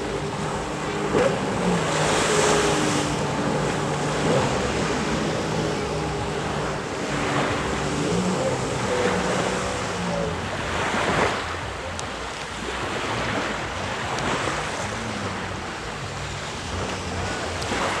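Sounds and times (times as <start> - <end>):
jet ski engine running: 0.0 - 18.0
water rushing and splashing: 0.0 - 18.0.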